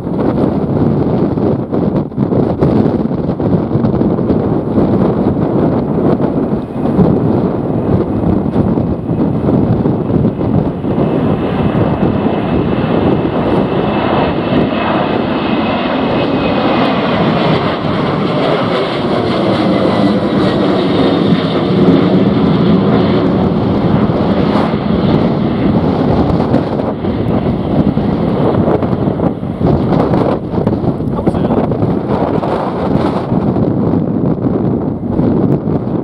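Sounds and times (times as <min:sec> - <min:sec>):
jet engines roaring overhead: 0:00.0 - 0:36.0.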